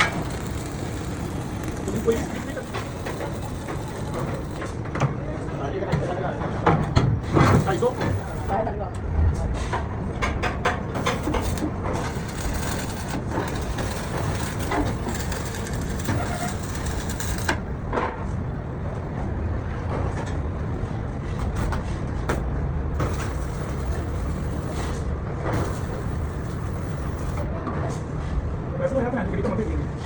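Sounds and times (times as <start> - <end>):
machinery rumbling: 0.0 - 10.2, 10.8 - 19.9, 21.9 - 28.6.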